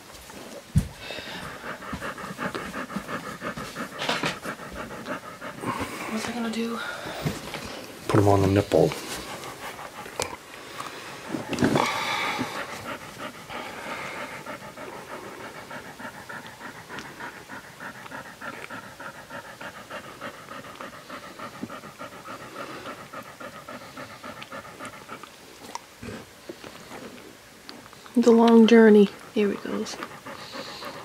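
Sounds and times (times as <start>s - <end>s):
dog panting fast: 0.8s - 25.5s, 28.2s - 31.0s.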